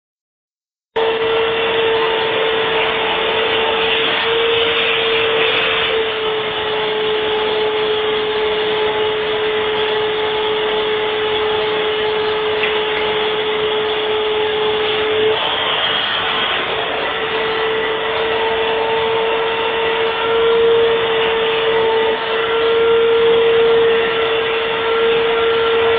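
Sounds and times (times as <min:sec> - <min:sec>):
vacuum cleaner running: 0:00.9 - 0:25.9.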